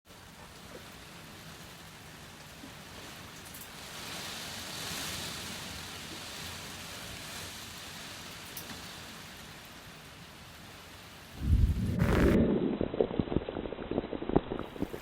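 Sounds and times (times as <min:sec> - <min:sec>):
rain falling: 0:00.1 - 0:15.0.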